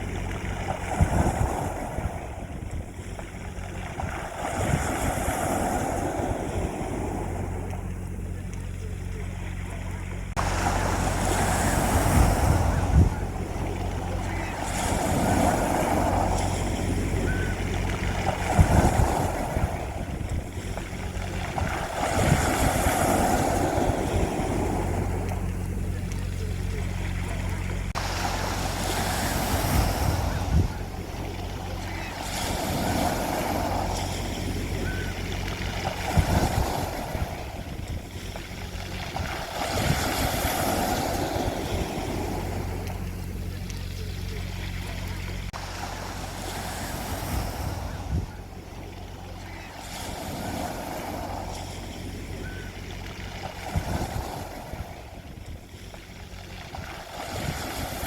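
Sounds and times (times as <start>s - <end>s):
sea waves washing onto beach: 0.0s - 58.0s
steady low rumble: 0.0s - 58.0s.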